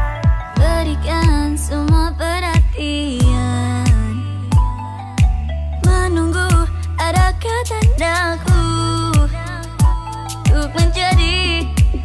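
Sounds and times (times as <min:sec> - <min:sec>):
deep drum beat: 0:00.0 - 0:12.0
girl singing into a microphone: 0:00.0 - 0:12.0
steady bass notes: 0:00.0 - 0:12.0.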